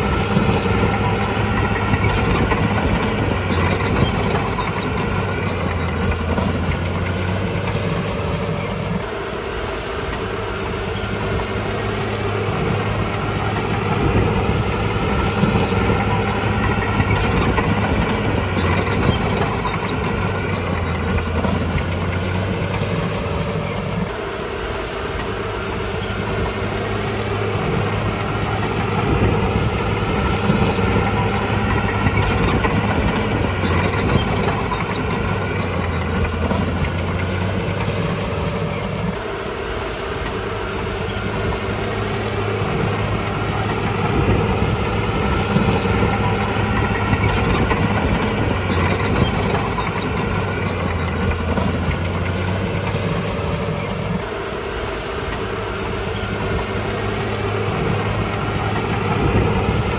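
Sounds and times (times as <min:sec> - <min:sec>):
bulldozer diesel engine running: 0:00.0 - 0:59.9
metallic clatter of steel tracks: 0:09.9 - 0:39.2, 0:40.0 - 0:59.9.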